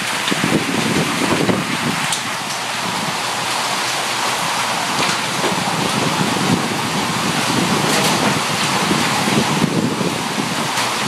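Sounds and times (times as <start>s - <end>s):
hailstones pelting down: 0.0s - 11.0s
sharp hail hits: 0.0s - 11.0s.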